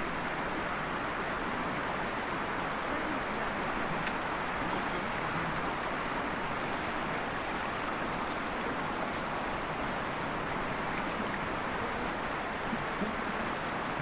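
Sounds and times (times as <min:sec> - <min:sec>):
fast-flowing river water: 0:00.0 - 0:14.0.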